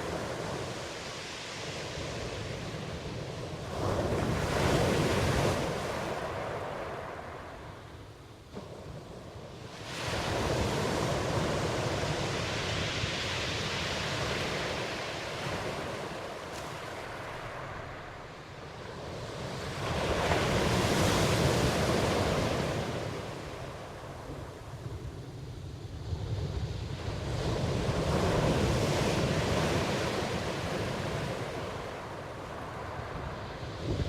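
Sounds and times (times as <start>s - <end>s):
waves breaking and washing in: 0.0s - 34.0s.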